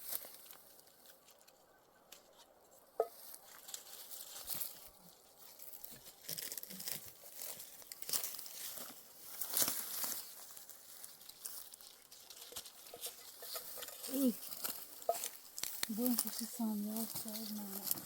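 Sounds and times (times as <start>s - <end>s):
dry plant material rustling: 0.0s - 18.0s
light crackles: 0.0s - 18.0s.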